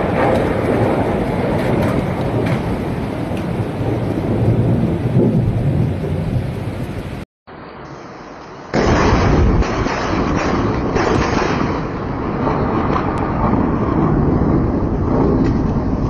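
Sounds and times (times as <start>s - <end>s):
loud thunderclap: 0.0s - 7.2s, 8.7s - 16.0s
heavy thunder rumbling: 0.0s - 16.0s
rain: 0.0s - 16.0s.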